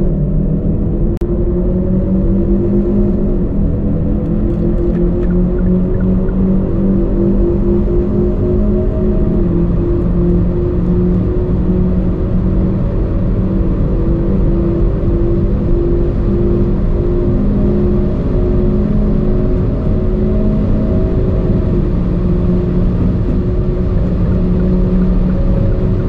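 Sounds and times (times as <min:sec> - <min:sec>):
car engine at full throttle: 0:00.0 - 0:26.0
wind and road noise: 0:00.0 - 0:26.0.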